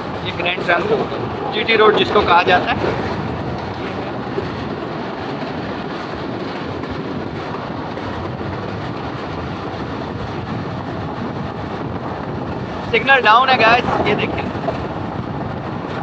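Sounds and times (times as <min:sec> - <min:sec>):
train wheels rumbling and rattling: 0:00.0 - 0:16.0.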